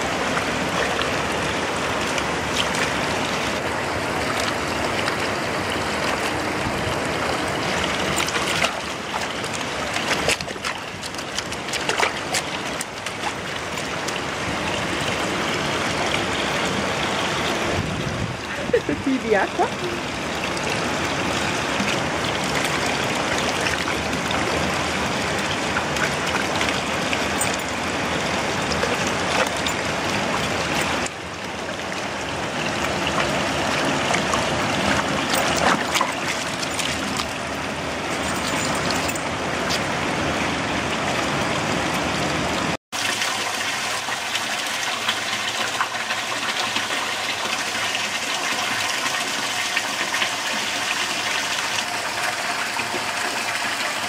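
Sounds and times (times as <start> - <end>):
water splashing into stone basin: 0.0 - 16.7, 18.8 - 40.1, 43.0 - 54.0
water stream splashing into trough: 0.0 - 54.0.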